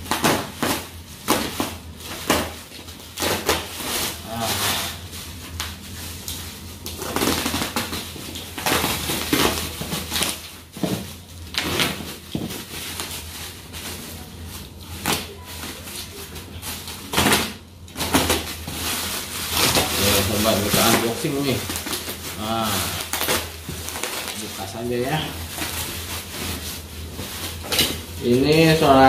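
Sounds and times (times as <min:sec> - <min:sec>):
bubble wrap crinkling: 0:00.0 - 0:29.0.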